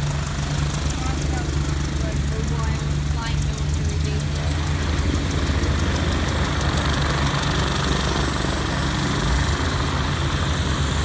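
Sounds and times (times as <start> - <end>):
helicopter rotor rumble: 0.0 - 11.0
high engine whine: 0.0 - 11.0.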